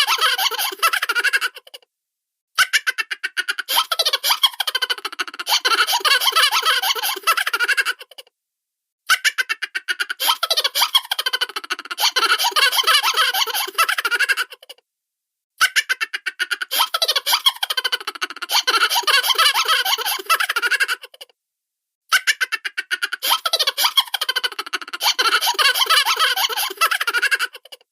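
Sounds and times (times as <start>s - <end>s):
high-pitched cartoon laughter: 0.0s - 1.8s, 2.6s - 8.3s, 9.1s - 14.8s, 15.6s - 21.3s, 22.1s - 27.9s.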